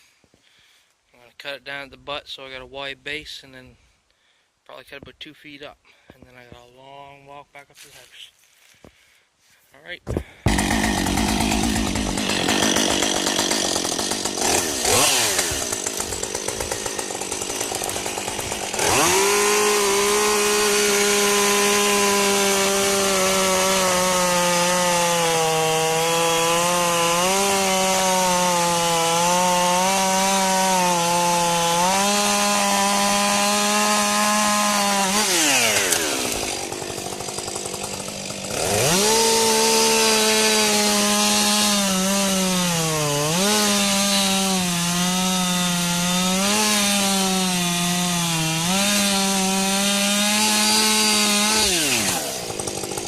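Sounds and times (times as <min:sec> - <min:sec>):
chainsaw revving: 0:10.5 - 0:53.0.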